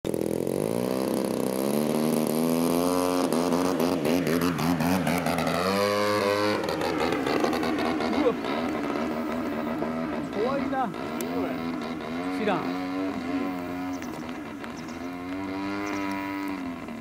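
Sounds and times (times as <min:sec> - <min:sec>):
model plane motor and propeller: 0:00.1 - 0:17.0.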